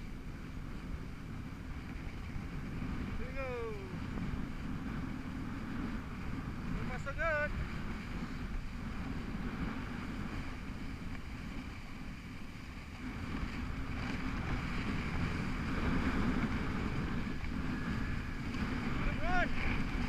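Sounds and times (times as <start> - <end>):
snowboard sliding on snow: 0.0 - 20.0
wind buffeting microphone: 0.0 - 20.0.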